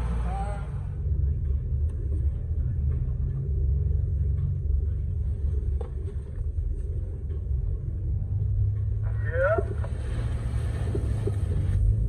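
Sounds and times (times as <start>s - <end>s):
off-road vehicle rumble: 0.0s - 12.0s.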